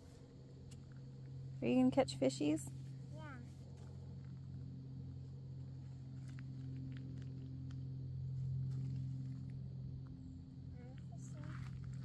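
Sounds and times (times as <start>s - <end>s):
distant engine hum: 0.0s - 12.0s.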